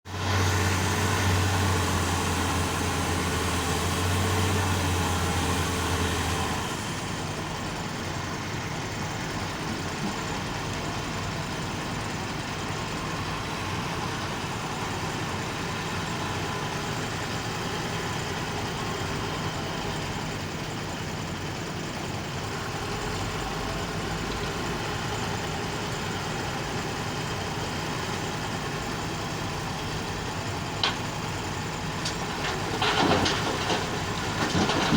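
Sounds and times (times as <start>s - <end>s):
heavy vehicle engine running: 0.0s - 34.9s.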